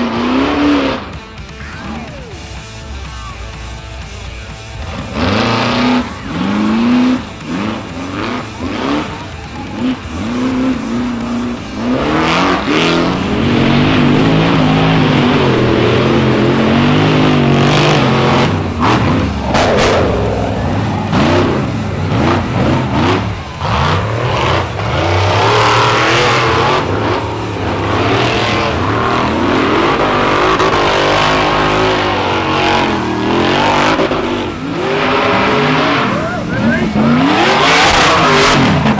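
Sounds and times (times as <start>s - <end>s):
buggy engines revving hard: 0.0s - 38.9s.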